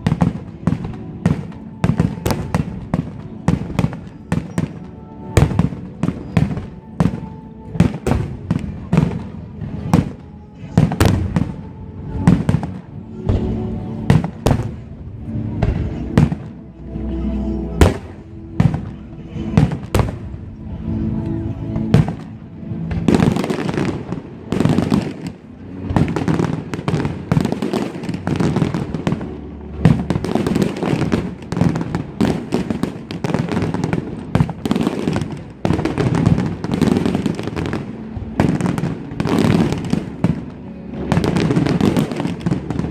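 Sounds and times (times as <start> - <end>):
fireworks crackling: 0.0 - 42.9
music playing: 0.0 - 42.9.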